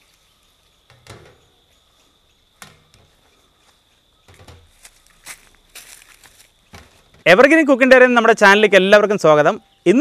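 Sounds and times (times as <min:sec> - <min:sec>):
faint high insect drone: 0:00.0 - 0:10.0.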